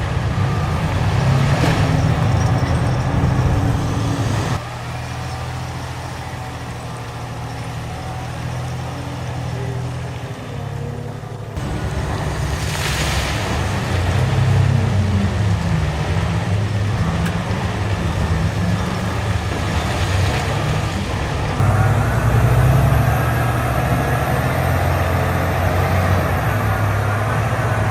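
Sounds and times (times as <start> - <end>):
heavy diesel engines running: 0.0 - 27.9.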